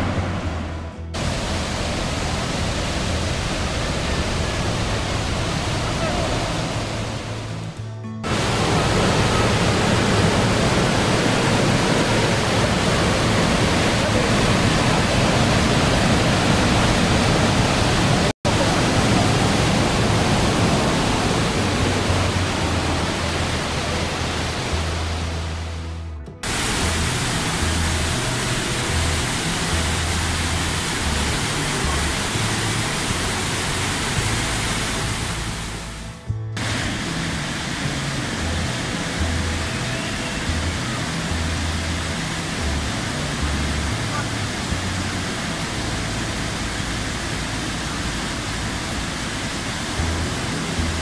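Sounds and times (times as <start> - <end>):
music: 0.0 - 15.6, 18.5 - 51.0
waterfall roaring: 0.0 - 51.0.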